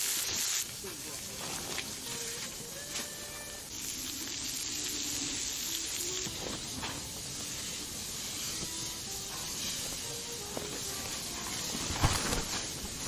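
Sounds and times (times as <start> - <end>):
steak sizzling on griddle: 0.0 - 11.8.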